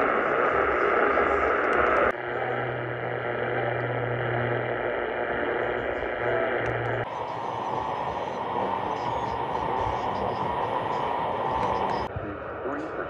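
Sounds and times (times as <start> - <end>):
low radio hum: 0.0 - 13.0
radio static and hiss: 0.0 - 13.0.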